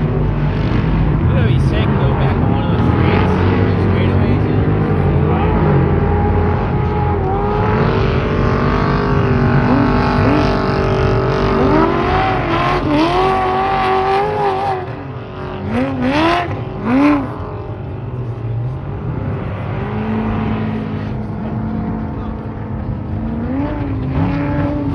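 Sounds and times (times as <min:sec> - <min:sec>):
race truck engines revving: 0:00.0 - 0:24.9.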